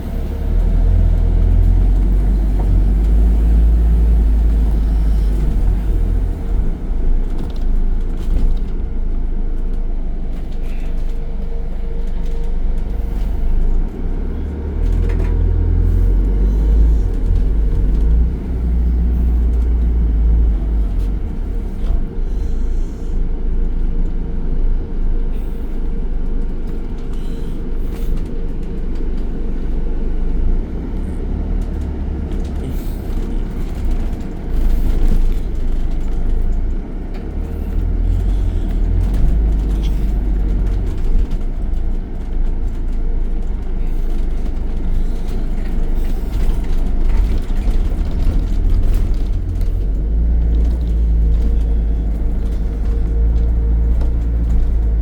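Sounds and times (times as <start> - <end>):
bus cooling fan humming: 0.0 - 55.0.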